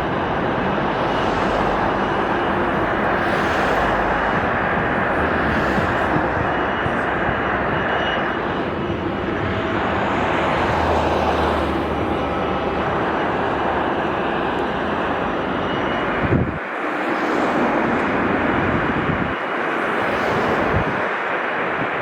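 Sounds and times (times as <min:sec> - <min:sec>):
jet engines at takeoff power: 0:00.0 - 0:22.0
wind rumble on microphone: 0:00.0 - 0:22.0.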